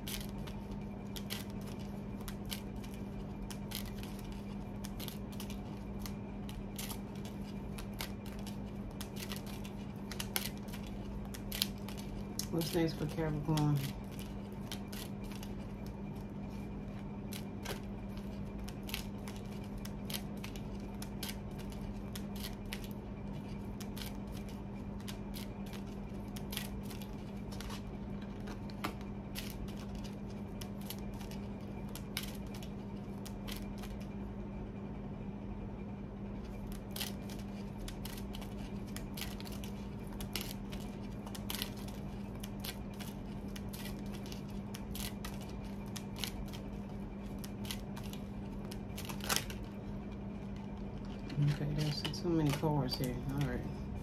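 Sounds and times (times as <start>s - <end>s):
cards being shuffled: 0.0s - 34.1s, 36.5s - 53.8s
steady low hum: 0.0s - 54.0s.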